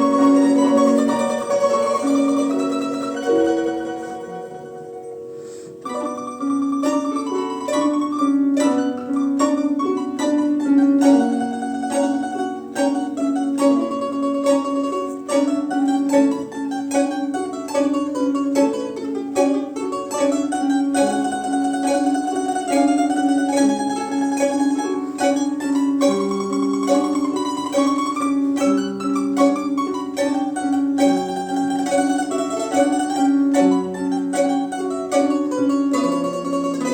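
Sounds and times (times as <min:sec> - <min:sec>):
plucked string quartet playing: 0:00.0 - 0:36.9.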